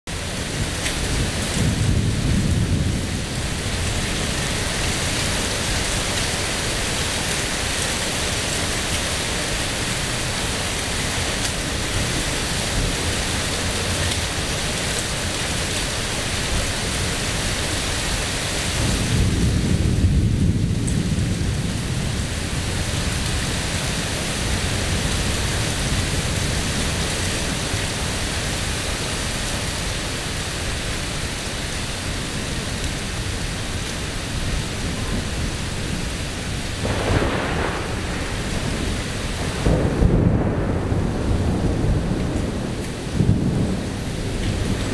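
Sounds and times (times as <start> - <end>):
thunder rumbling: 0.1 - 15.6, 18.6 - 29.0, 34.4 - 44.9
steady rain falling: 0.1 - 44.9.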